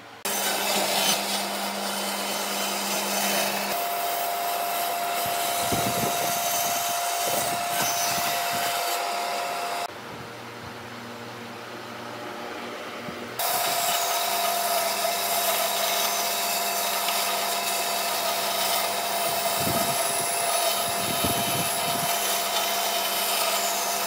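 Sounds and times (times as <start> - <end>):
band saw cutting wood: 0.0 - 9.9, 13.4 - 24.0.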